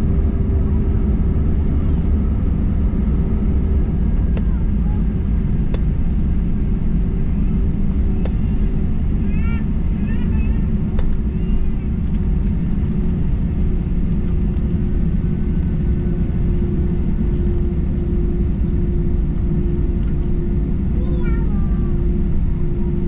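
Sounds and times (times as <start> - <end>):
airliner cabin rumble: 0.0 - 23.0
steady hum: 0.0 - 23.0.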